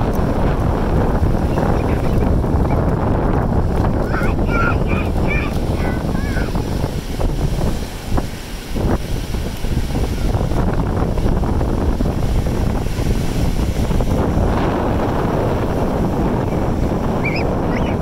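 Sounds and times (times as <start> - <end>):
ocean surf washing up beach: 0.0 - 18.0
wind rumble on microphone: 0.0 - 18.0.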